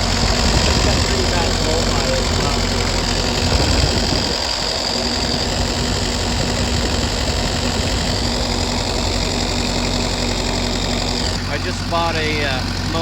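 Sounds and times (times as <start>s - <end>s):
excavator diesel engine idling: 0.0s - 13.0s.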